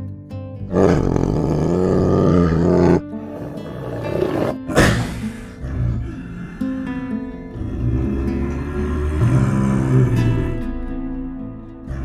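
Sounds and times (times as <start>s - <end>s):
background music: 0.0s - 12.0s
harsh animal call: 0.7s - 10.9s
big cat roaring: 0.7s - 12.0s.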